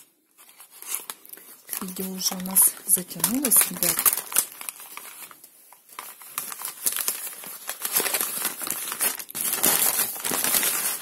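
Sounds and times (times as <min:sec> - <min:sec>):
paper crinkling and rustling: 0:00.0 - 0:11.0.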